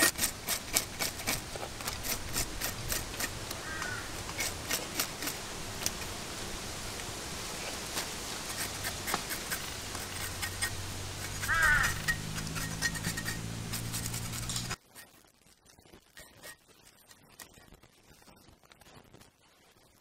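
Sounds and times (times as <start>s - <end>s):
cleaver clicks and scrapes: 0.0s - 6.1s, 7.6s - 17.7s.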